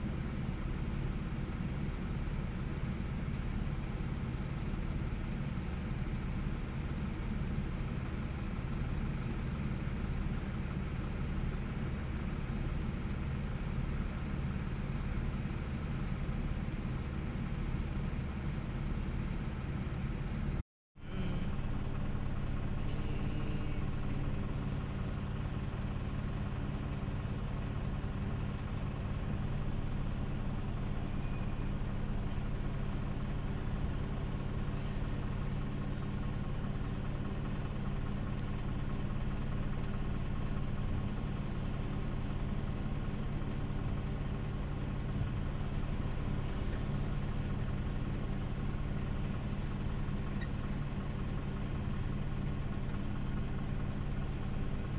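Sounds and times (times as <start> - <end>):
vehicle engine humming: 0.0 - 54.9.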